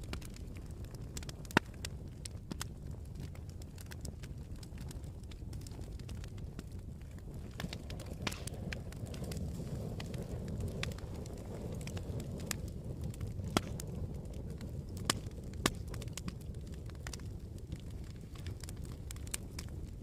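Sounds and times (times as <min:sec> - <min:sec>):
burning wood crackling and popping: 0:00.0 - 0:20.0
campfire flame rushing: 0:00.0 - 0:20.0.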